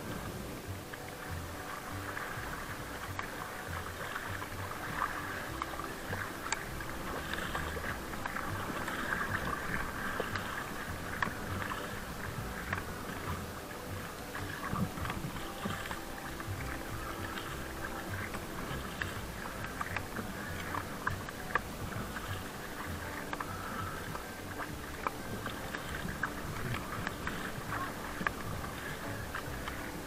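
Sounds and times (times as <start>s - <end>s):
paddle strokes splashing: 0.0s - 30.0s
water lapping against hull: 0.0s - 30.0s.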